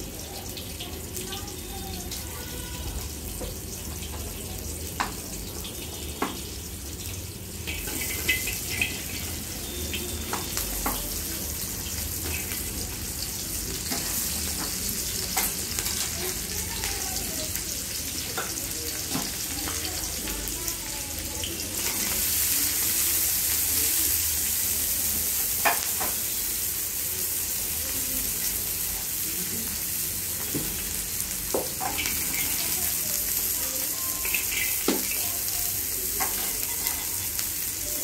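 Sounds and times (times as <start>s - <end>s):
hot oil sizzling in a wok: 0.0s - 38.0s.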